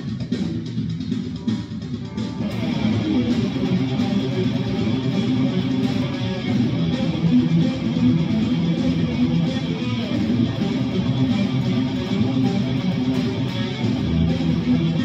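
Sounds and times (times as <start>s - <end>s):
guitar playing: 2.0s - 15.0s.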